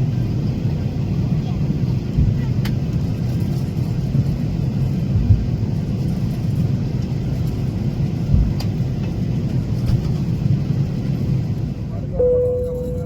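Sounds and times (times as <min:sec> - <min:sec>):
airliner cabin rumble: 0:00.0 - 0:13.0.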